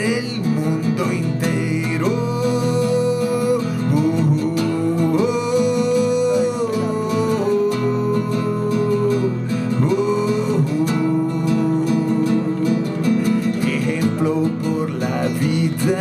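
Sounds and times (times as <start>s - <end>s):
guitar accompaniment: 0.0s - 16.0s
person singing: 0.0s - 16.0s.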